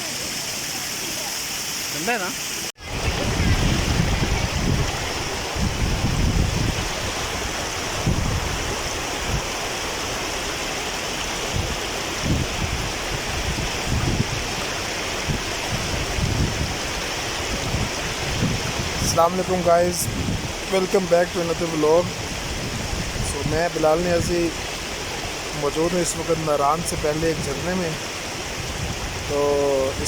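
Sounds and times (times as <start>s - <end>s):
waterfall rushing: 0.0s - 30.0s
wind rumbling on microphone: 2.8s - 30.0s.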